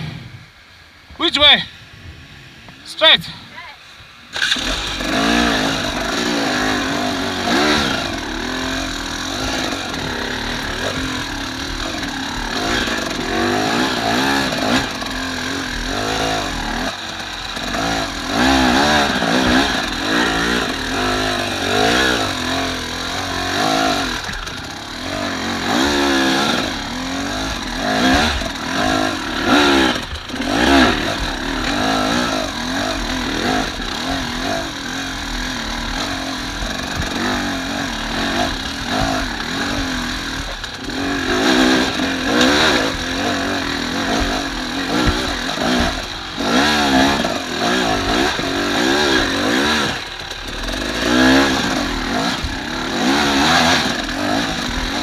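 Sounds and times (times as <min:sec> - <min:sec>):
motorcycle engine revving: 0:04.3 - 0:55.0.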